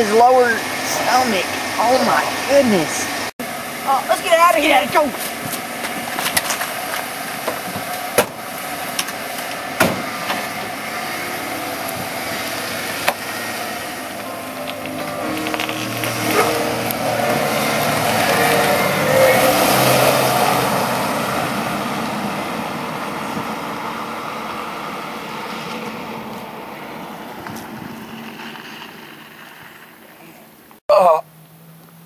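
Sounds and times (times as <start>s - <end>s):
car driving away: 0.0s - 32.0s.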